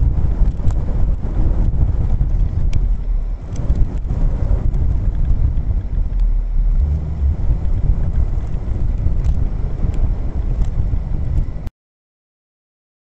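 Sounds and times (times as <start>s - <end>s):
car engine and road rumble: 0.0s - 11.7s
wind buffeting microphone: 0.0s - 11.7s.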